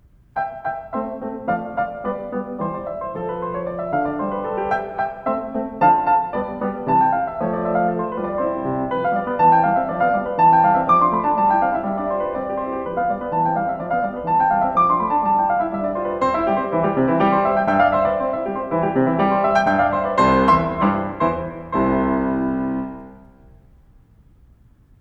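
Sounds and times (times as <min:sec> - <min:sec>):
gentle piano music: 0:00.0 - 0:23.8.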